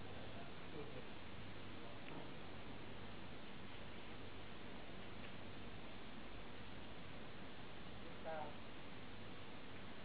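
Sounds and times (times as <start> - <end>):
background hiss and hum: 0.0 - 10.0.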